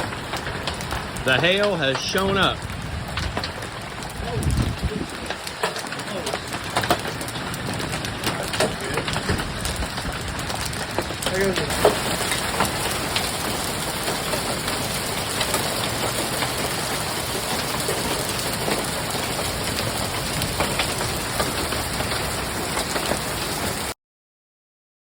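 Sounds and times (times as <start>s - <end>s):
hailstones clattering: 0.0s - 24.0s.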